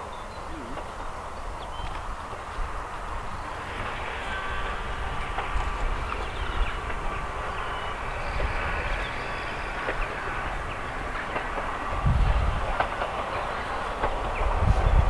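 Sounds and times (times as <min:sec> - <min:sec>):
distant steam locomotive rumble: 0:00.0 - 0:15.0.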